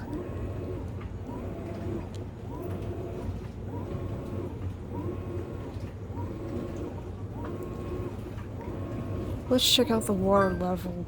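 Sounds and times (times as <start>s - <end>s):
washing machine motor whine: 0.0s - 11.0s.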